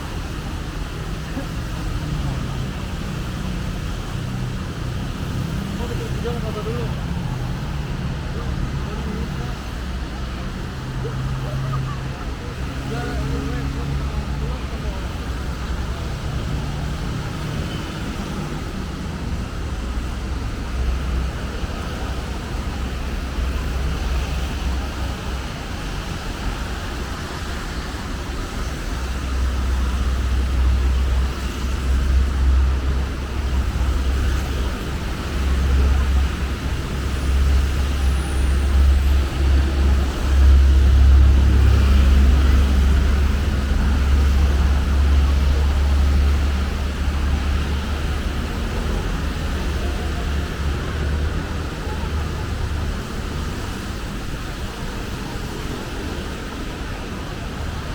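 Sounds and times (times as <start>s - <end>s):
road traffic rushing: 0.0s - 57.9s.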